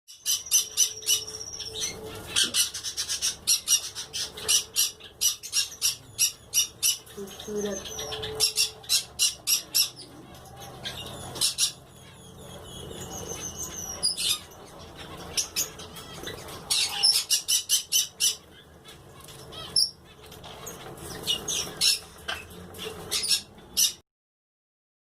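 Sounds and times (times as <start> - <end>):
parrot squawking and chirping: 0.1 - 24.0.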